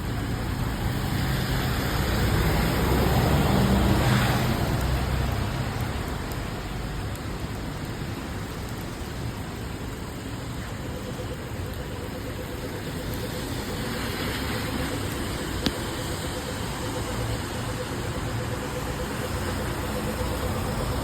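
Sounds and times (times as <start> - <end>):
rain hissing: 0.0 - 21.0
vehicle engine idling: 0.0 - 21.0
wet city street noise: 0.0 - 21.0.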